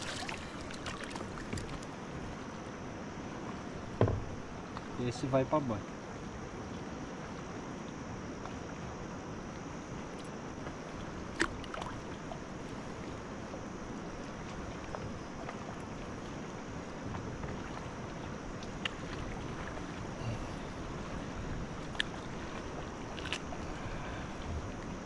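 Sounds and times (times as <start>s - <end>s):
flowing river water: 0.0s - 25.0s
wind: 0.0s - 25.0s.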